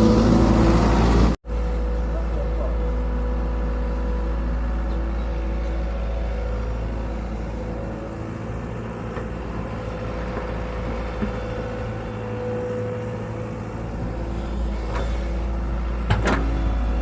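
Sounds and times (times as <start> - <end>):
engine running with deep hum: 0.0 - 17.0.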